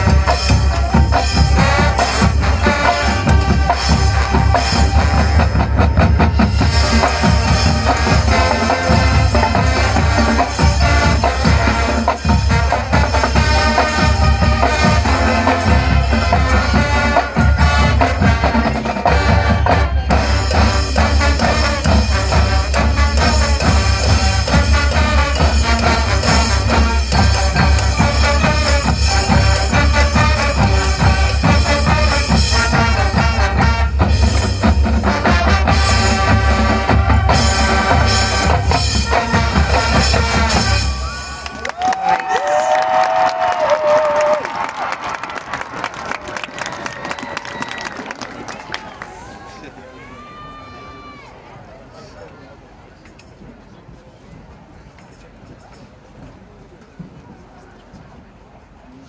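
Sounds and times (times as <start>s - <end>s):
marching band playing: 0.0s - 49.2s.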